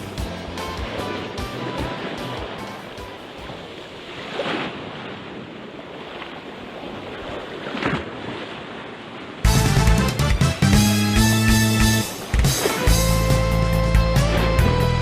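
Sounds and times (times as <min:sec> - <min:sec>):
waves washing against shore: 0:00.0 - 0:10.5, 0:11.2 - 0:14.9.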